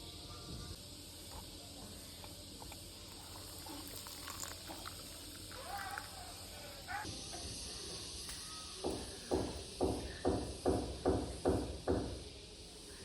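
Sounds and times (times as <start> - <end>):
distant indistinct voices: 0.0 - 13.0
steady hiss: 0.7 - 13.0.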